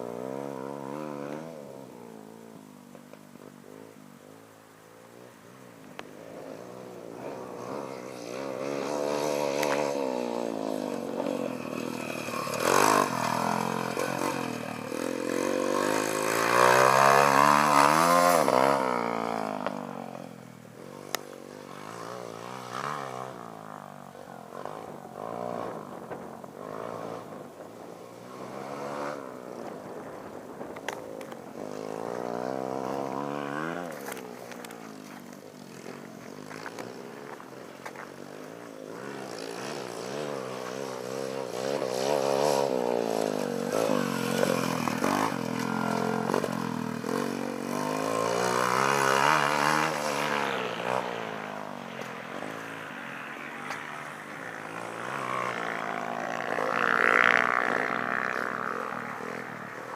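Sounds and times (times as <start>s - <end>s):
pit bike engine revving: 6.2s - 30.1s, 31.2s - 59.9s.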